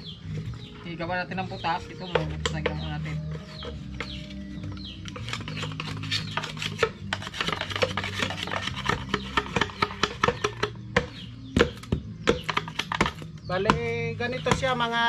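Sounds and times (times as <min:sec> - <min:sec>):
hand tools scraping wood: 0:00.0 - 0:14.9.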